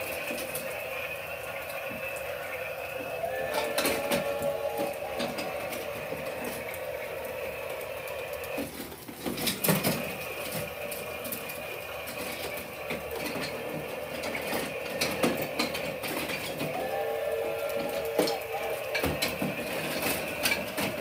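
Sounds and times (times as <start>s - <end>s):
toy train motor whine: 0.0s - 21.0s.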